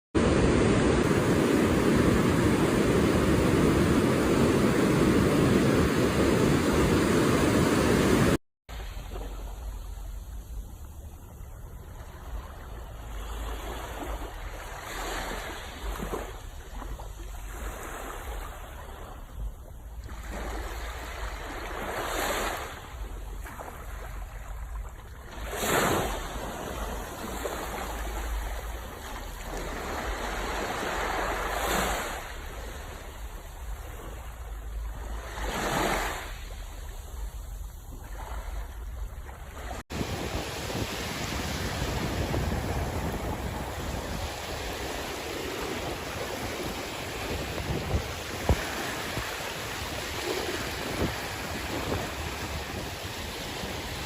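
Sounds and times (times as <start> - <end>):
sea waves washing ashore: 0.2 - 54.0.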